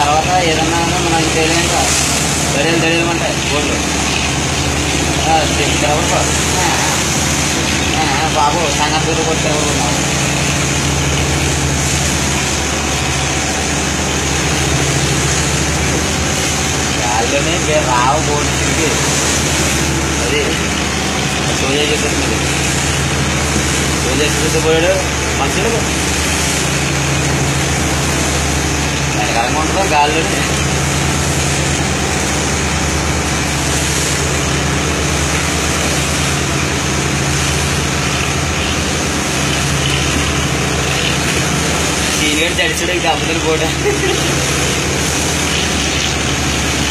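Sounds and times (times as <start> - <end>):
boat engine drone: 0.0 - 46.9
wind and water rushing: 0.0 - 46.9.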